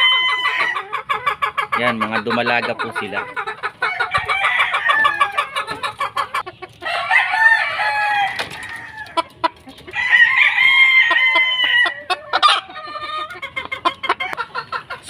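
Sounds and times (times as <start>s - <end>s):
rooster clucks and sharp calls: 0.0s - 15.0s
roosters crowing: 0.0s - 15.0s.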